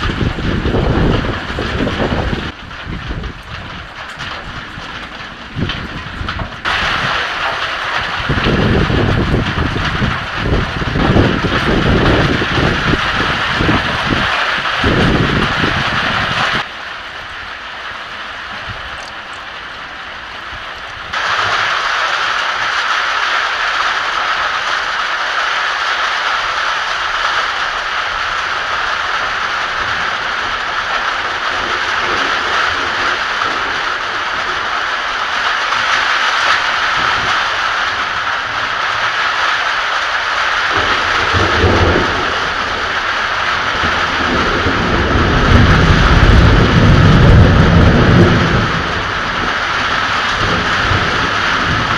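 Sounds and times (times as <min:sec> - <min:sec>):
heavy rain hissing: 0:00.0 - 0:51.9
thunder rumbling: 0:00.0 - 0:51.9.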